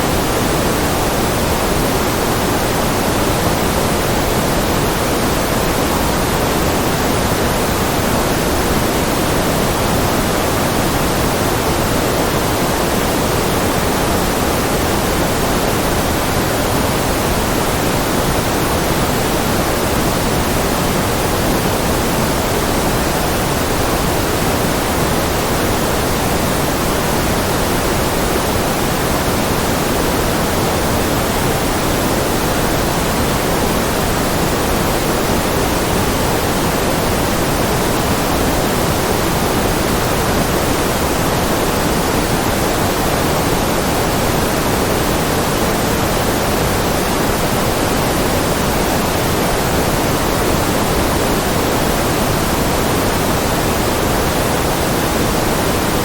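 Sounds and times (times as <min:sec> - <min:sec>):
low-weighted white noise: 0:00.0 - 0:56.0.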